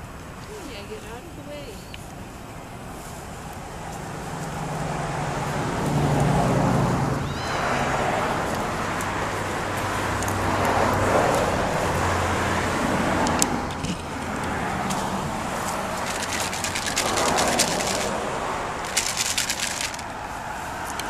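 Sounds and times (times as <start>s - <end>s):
road traffic rush: 0.0s - 21.0s.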